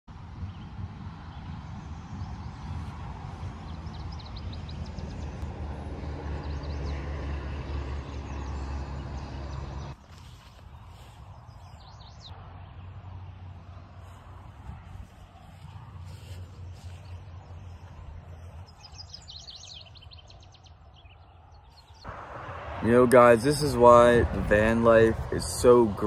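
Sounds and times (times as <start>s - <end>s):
small birds chirping: 0.4s - 13.2s, 14.0s - 22.1s.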